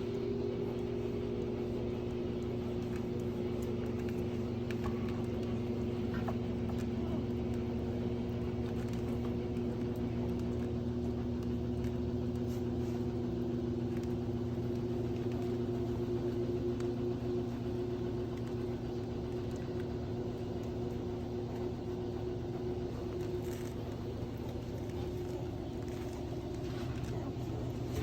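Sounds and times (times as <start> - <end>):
mechanical hum with low rumble: 0.0 - 28.0.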